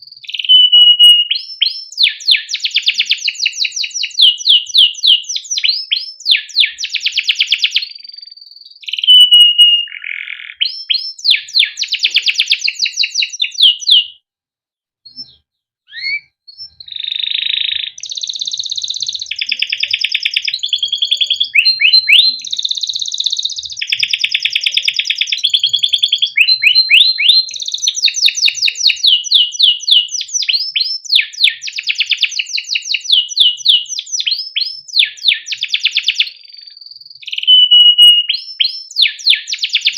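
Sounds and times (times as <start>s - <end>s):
canary singing trills: 0.0s - 14.2s, 15.1s - 39.9s.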